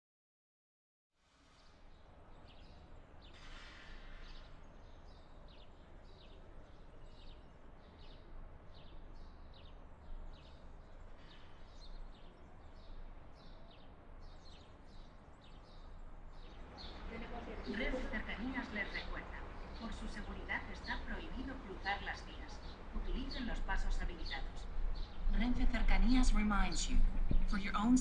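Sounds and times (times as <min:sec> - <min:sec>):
birds chirping: 0:01.6 - 0:28.0
low outdoor rumble: 0:04.6 - 0:28.0.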